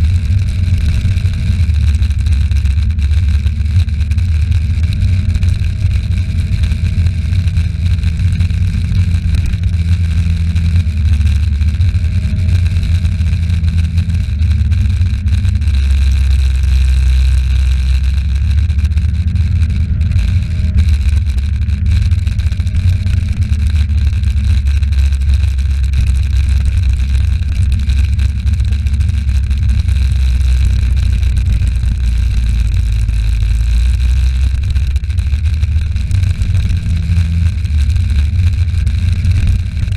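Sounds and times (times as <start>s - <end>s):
moped engine running: 0.0s - 39.9s
road and wind noise: 0.0s - 39.9s.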